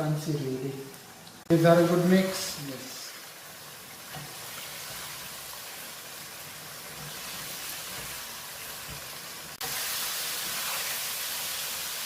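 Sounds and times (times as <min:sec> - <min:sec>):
curry sizzling in hot oil: 0:00.7 - 0:12.0.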